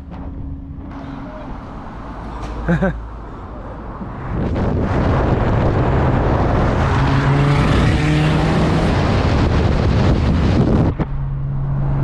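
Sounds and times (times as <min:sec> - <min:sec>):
car engine: 0:00.0 - 0:12.0
road and wind noise: 0:00.0 - 0:12.0.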